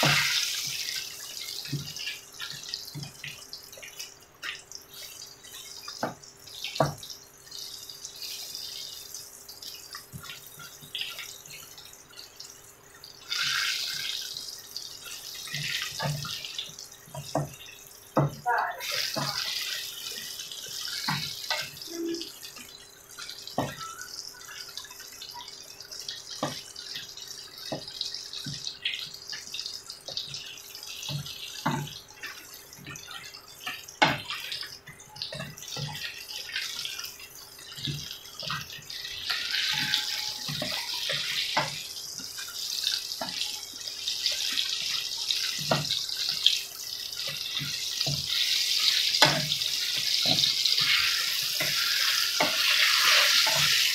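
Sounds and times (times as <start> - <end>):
vegetables deep-frying in oil: 0.0 - 53.9.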